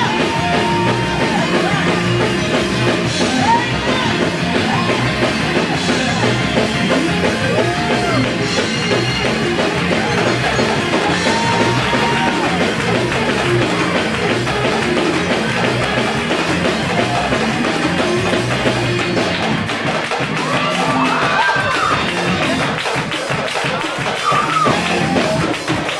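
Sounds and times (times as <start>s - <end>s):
church band playing gospel-rock: 0.0s - 25.9s
drum kit steady beat: 0.0s - 25.9s
electric guitar: 0.0s - 25.9s.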